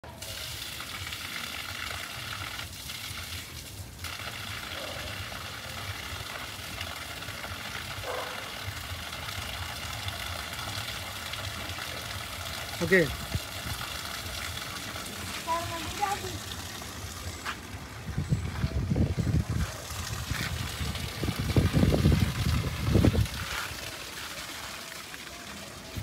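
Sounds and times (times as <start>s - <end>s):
water gushing from a pipe: 0.0s - 26.0s.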